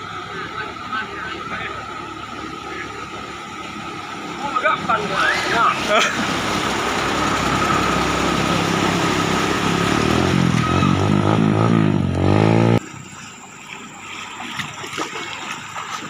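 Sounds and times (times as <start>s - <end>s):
motorcycle revving: 0.0s - 12.9s
truck engine passing: 0.0s - 15.9s.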